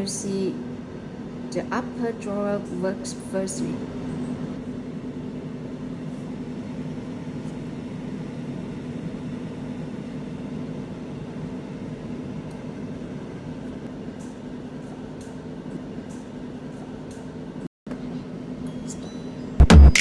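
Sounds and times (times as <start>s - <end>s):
air fryer fan humming: 0.0s - 18.6s.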